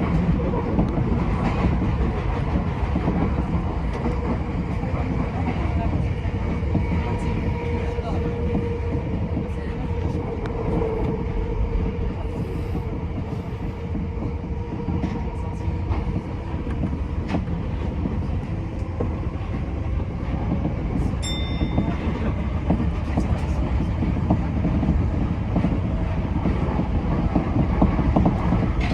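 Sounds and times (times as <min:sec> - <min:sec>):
train wheels rumbling on rail: 0:00.0 - 0:28.9.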